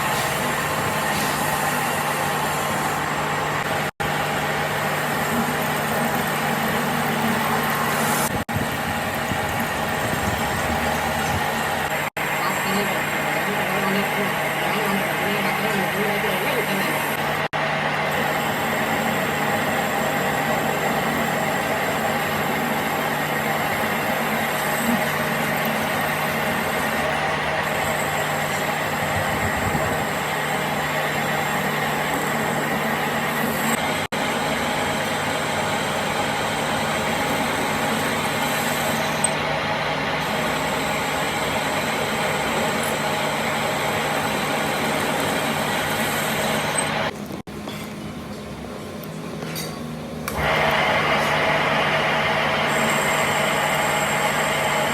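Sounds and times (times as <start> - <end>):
workshop machine motor humming: 0.0 - 54.9.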